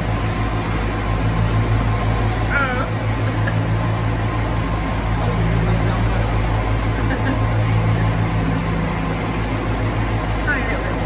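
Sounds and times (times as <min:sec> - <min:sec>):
boat engine droning in tunnel: 0:00.0 - 0:11.0.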